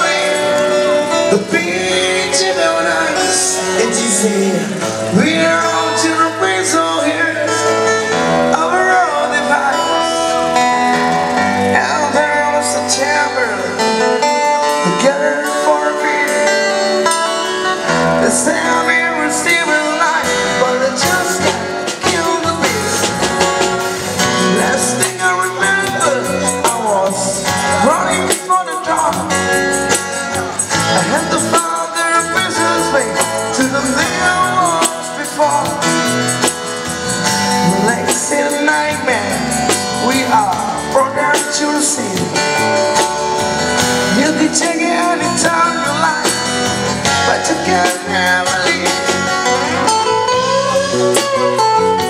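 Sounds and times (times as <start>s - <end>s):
acoustic guitar strumming: 0.0s - 52.0s
man singing: 0.0s - 52.0s.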